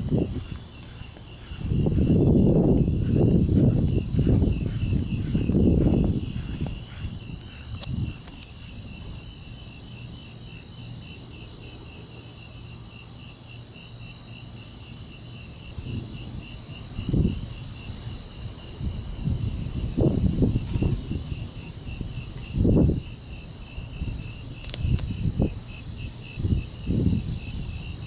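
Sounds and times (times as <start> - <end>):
crickets chirping: 0.0 - 28.0
high insect trill: 0.0 - 28.0.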